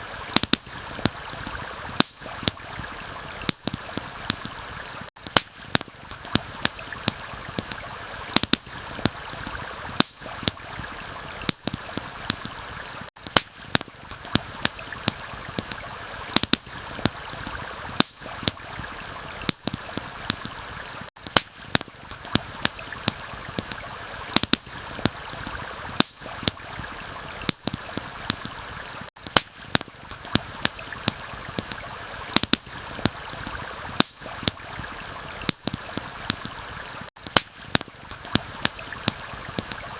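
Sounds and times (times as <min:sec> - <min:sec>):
campfire crackling and popping: 0:00.0 - 0:39.9
stream flowing: 0:00.0 - 0:39.9.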